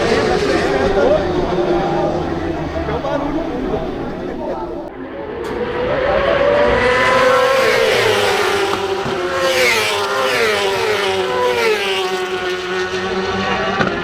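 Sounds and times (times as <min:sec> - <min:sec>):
racing motorcycle engines: 0:00.0 - 0:14.0.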